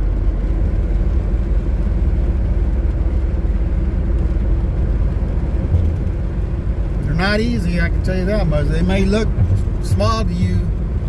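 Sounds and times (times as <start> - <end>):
pickup truck engine rumble: 0.0 - 11.0
road noise: 0.0 - 11.0.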